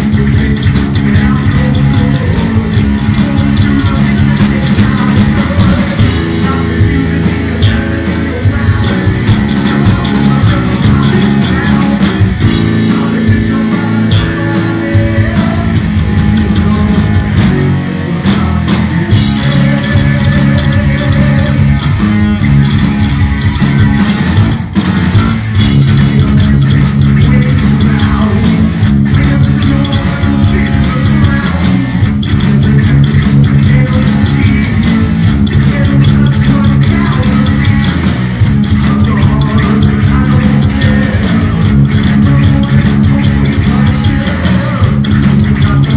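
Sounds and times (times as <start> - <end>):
distorted electric guitar: 0.0 - 45.9
heavy metal band playing live: 0.0 - 45.9.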